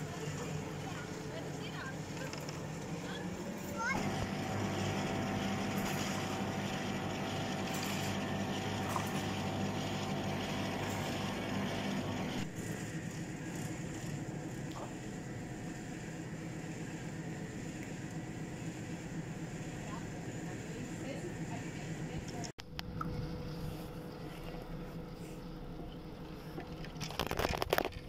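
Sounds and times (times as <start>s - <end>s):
chairlift machinery humming: 0.0s - 27.2s.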